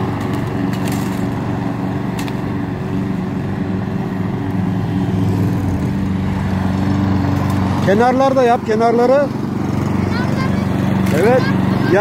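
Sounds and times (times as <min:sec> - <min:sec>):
lawn mower running: 0:00.0 - 0:12.0.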